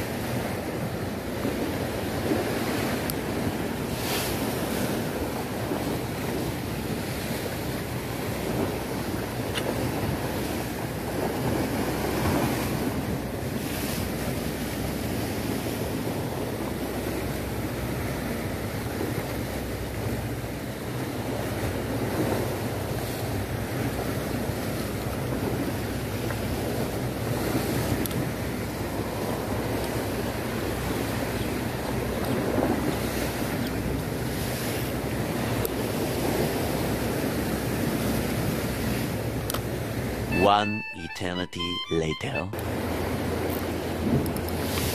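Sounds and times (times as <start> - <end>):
sea waves washing against rocks: 0.0 - 40.4, 42.7 - 44.9.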